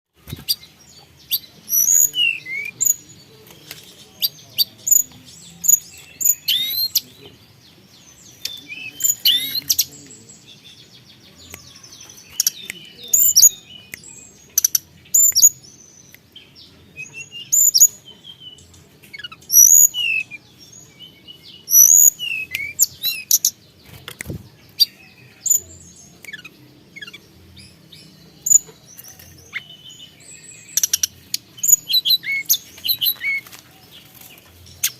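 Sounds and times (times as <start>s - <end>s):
songbird chirping and whistling: 0.2s - 34.9s.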